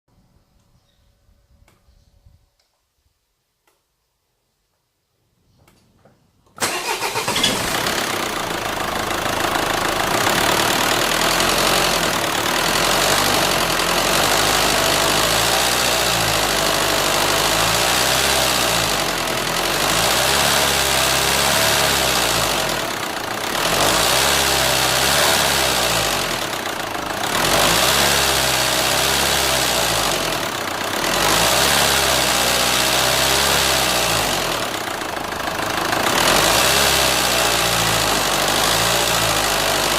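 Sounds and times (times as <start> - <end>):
diesel engine starting and revving: 6.6 - 39.9.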